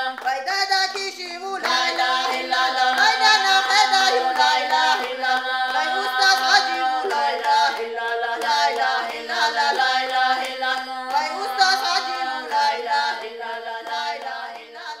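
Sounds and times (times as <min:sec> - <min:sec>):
person singing: 0:00.0 - 0:13.9.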